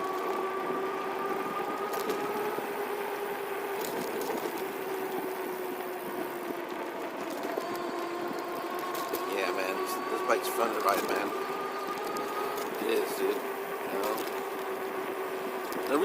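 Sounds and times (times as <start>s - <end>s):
electric bike motor whining: 0.0s - 16.0s.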